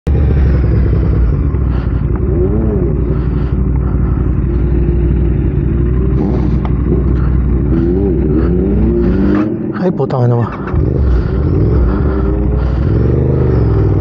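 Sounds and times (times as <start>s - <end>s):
motorcycle engines rumbling: 0.1s - 14.0s.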